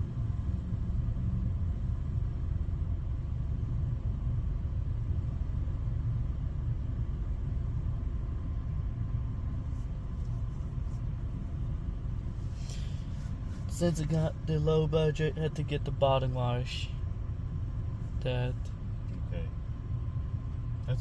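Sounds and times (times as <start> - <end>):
low vehicle rumble: 0.0 - 21.0.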